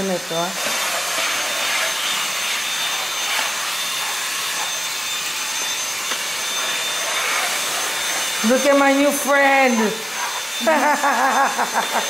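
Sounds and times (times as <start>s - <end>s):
cordless vacuum running: 0.0s - 12.0s.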